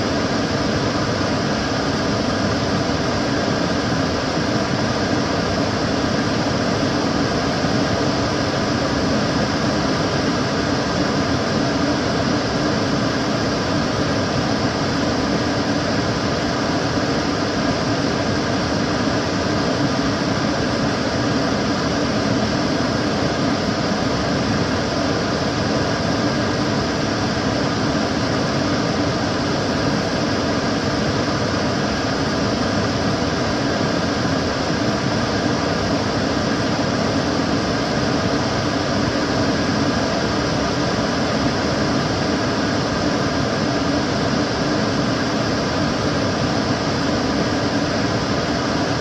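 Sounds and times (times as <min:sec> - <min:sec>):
extractor fan rushing air: 0:00.0 - 0:49.0.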